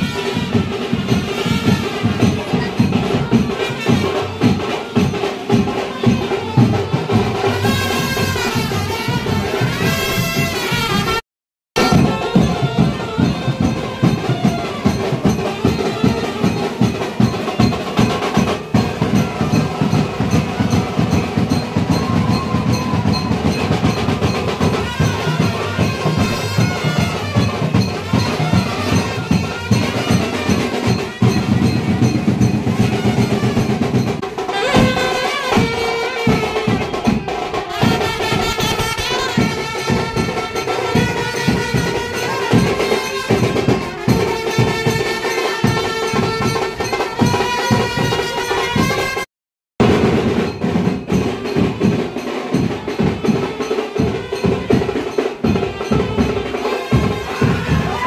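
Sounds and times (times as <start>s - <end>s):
fast drumming: 0.0s - 11.2s, 11.8s - 58.0s.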